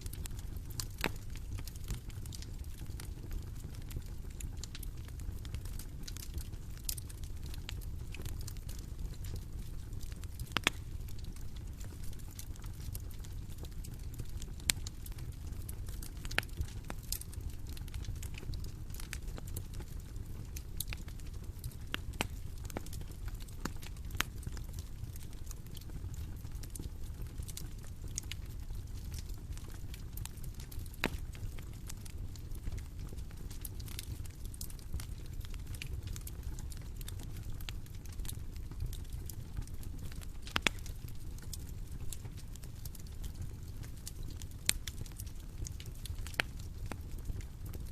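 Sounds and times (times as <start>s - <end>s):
bonfire crackling: 0.0s - 47.9s
fire low rumble: 0.0s - 47.9s.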